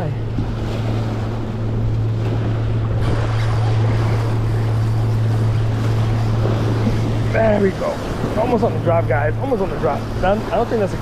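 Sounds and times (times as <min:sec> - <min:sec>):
steady low hum: 0:00.0 - 0:11.0
wind on microphone: 0:00.0 - 0:11.0
waves splashing against rocks: 0:00.2 - 0:11.0.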